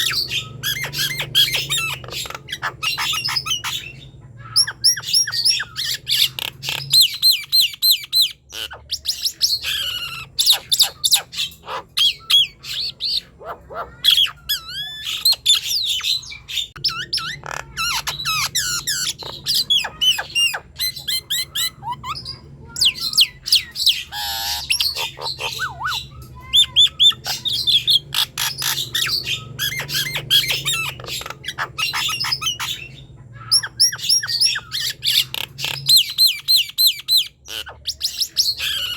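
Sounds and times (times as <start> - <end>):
myna whistling and squawking: 0.0 - 38.9.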